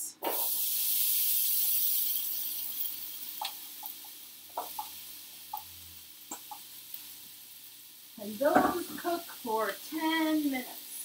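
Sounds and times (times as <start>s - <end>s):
vegetables sizzling in frying pan: 0.1s - 11.0s.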